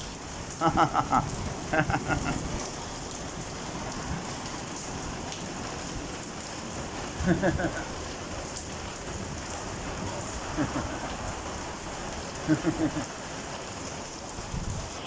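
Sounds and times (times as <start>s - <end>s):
heavy rain on hard surfaces: 0.0s - 15.0s.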